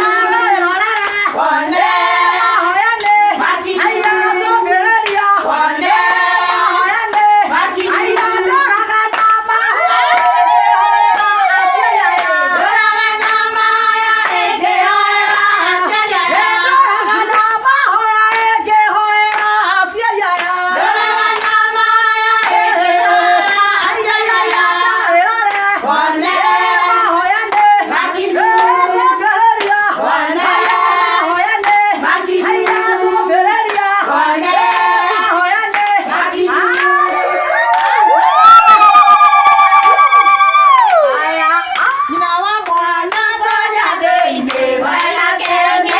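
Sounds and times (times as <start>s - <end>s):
rhythmic hand clapping: 0.0s - 45.9s
women singing: 0.0s - 45.9s.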